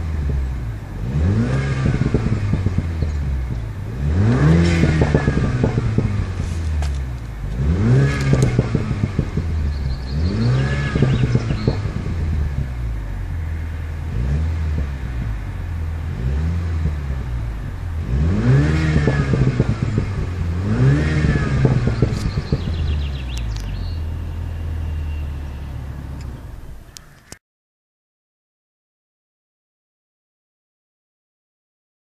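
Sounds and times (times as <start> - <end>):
car engine idling and revving: 0.0 - 27.4.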